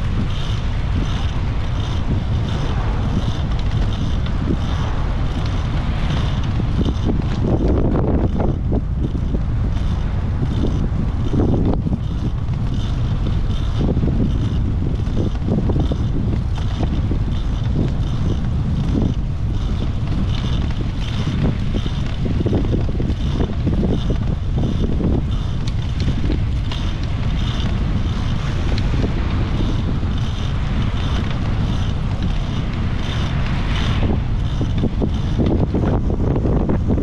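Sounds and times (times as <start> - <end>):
bicycle tyre rolling on asphalt: 0.0 - 37.0
wind buffeting microphone: 0.0 - 37.0.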